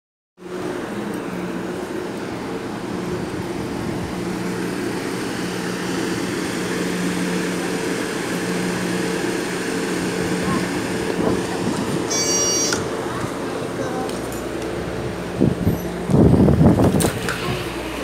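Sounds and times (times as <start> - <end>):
bus engine idling: 0.4 - 18.0.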